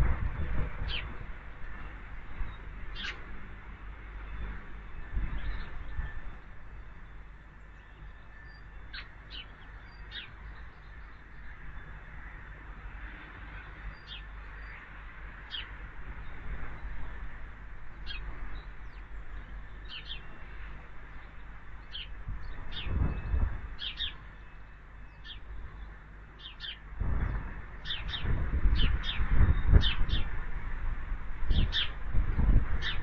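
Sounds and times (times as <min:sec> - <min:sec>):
small birds chirping: 0:00.8 - 0:03.4, 0:04.0 - 0:30.8, 0:31.5 - 0:33.0.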